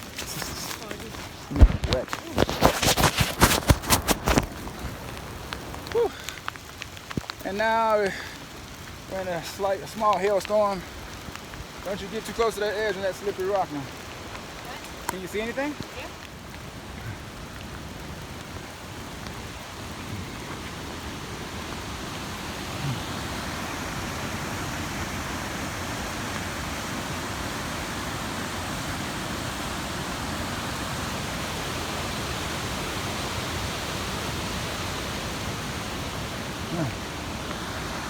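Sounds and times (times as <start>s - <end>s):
rain and hail falling: 0.0s - 38.0s.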